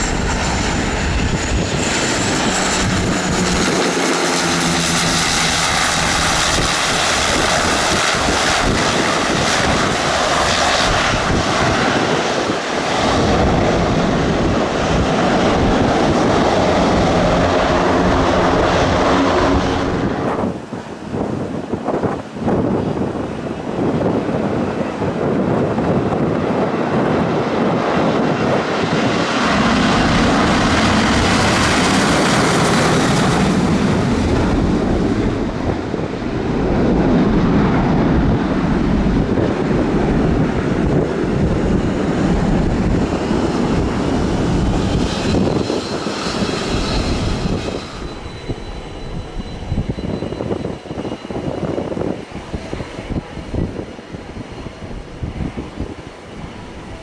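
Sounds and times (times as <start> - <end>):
airplane engines passing: 0.0 - 57.0.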